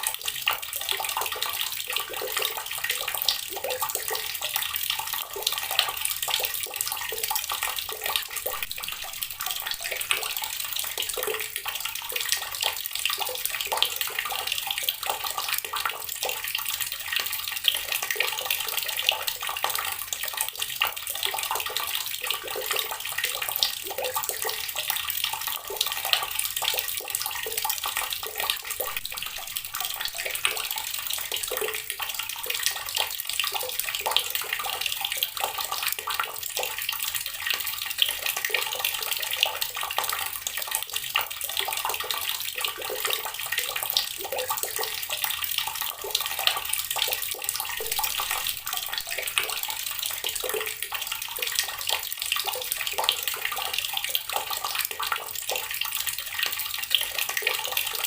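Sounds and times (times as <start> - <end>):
water running from a tap: 0.0 - 58.0.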